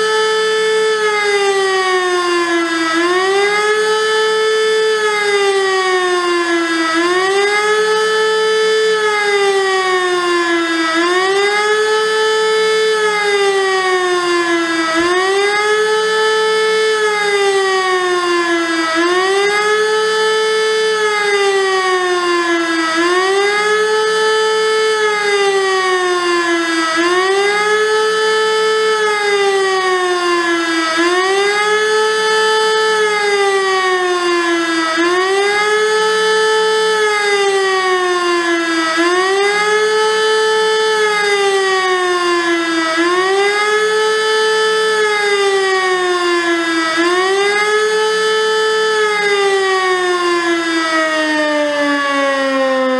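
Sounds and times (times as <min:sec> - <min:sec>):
civil defence siren wailing: 0:00.0 - 0:52.9.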